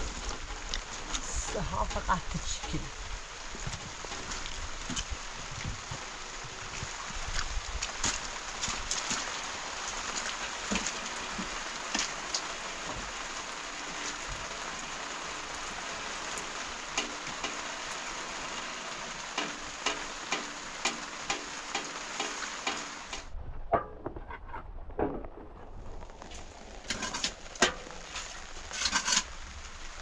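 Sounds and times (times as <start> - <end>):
rain hissing: 0.0 - 23.4, 25.4 - 30.0.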